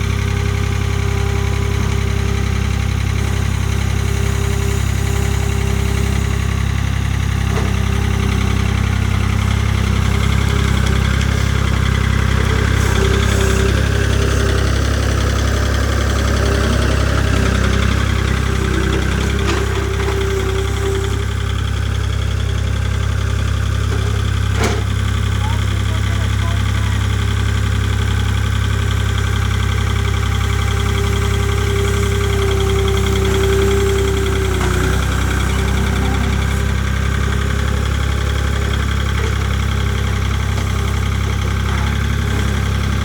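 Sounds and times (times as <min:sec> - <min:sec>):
engine idling: 0:00.0 - 0:43.0.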